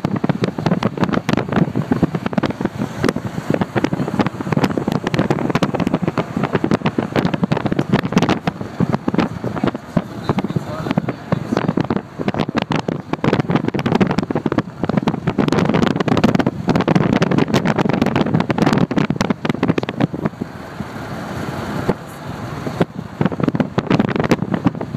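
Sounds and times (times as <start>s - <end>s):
dense crackling and knocking: 0.0s - 20.4s, 22.8s - 24.9s
vehicle road and engine noise: 0.0s - 24.9s.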